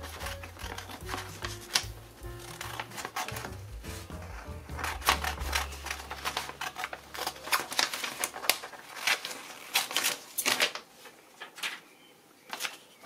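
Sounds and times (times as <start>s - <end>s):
scissors snipping paper: 0.0s - 10.8s.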